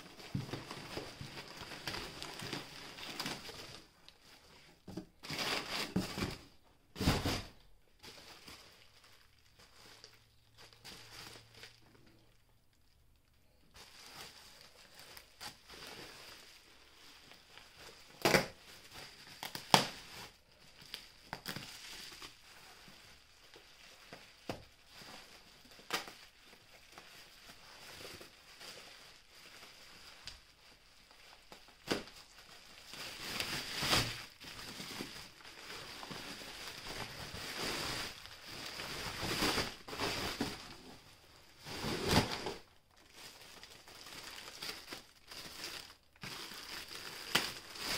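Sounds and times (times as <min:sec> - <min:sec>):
wrapping material crinkling: 0:00.0 - 0:47.9.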